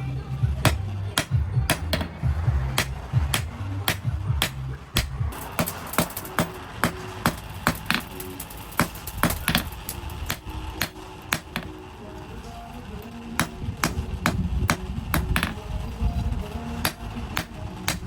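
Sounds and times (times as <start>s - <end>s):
background music: 0.0s - 18.0s
hammer striking steel on anvil: 0.6s - 11.8s, 13.4s - 15.6s, 16.8s - 18.0s.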